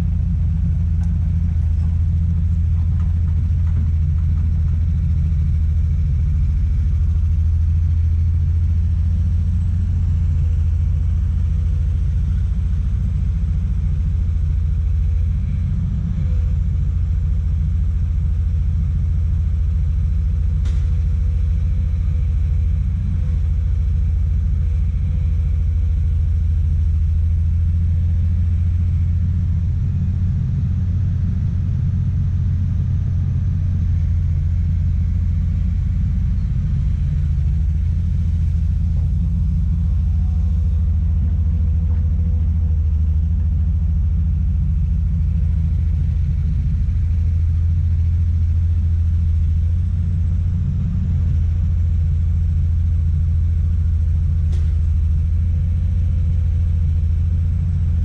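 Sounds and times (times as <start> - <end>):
excavator diesel engine rumbling: 0.0 - 58.0.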